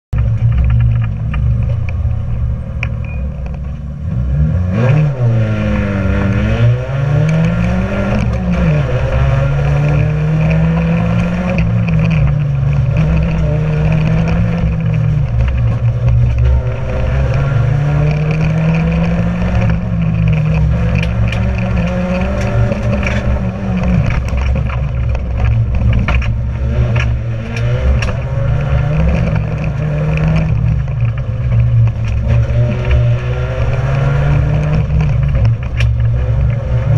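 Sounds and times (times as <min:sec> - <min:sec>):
car engine revving: 0:00.2 - 0:36.9.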